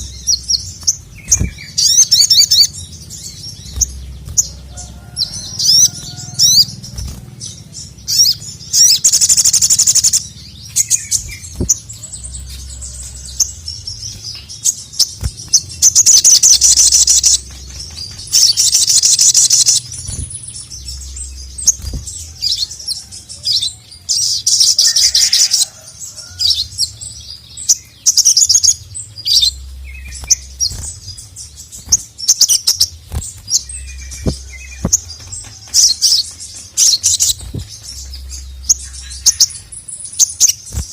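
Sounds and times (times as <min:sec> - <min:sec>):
bird chirps: 0:00.0 - 0:40.9
bird singing rapid high song: 0:00.0 - 0:40.9.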